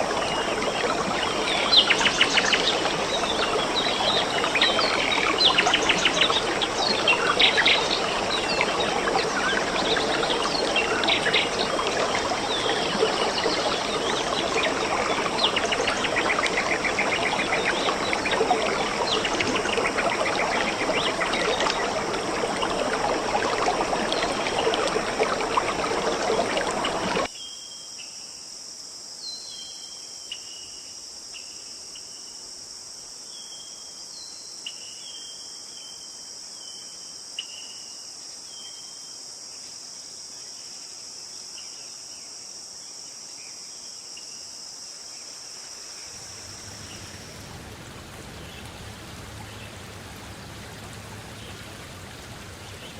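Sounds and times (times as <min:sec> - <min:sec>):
cricket chirps: 0:00.0 - 0:52.9
insect chorus hiss: 0:00.0 - 0:52.9.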